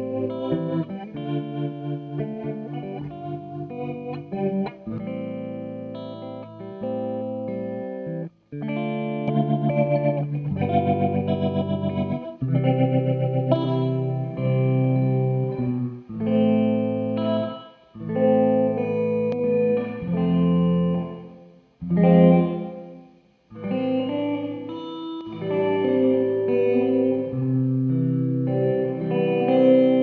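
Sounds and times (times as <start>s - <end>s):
electric guitar chords with reverb: 0.0s - 30.0s.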